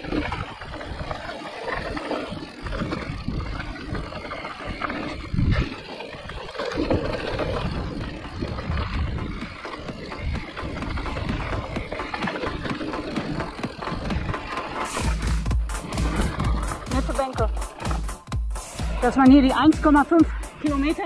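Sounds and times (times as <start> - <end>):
wind rumble on microphone: 0.0 - 17.5
bike rattling: 0.0 - 21.0
tyres crunching on gravel: 0.0 - 21.0.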